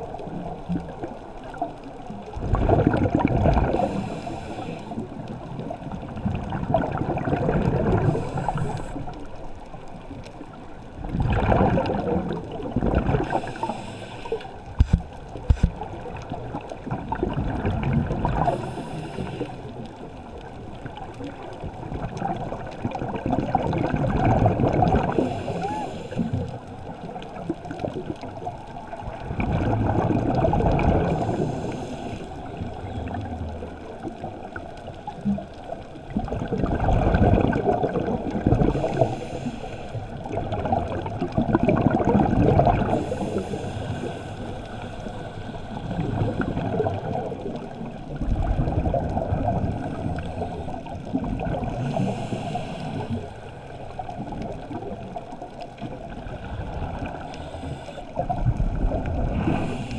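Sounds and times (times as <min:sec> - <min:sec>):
muffled underwater water rush: 0:00.0 - 0:59.9.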